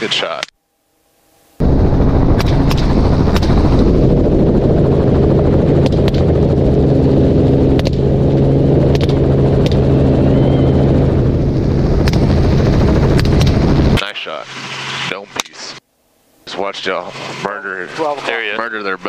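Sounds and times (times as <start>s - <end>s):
helicopter rotor droning: 1.1s - 15.8s, 16.4s - 19.0s.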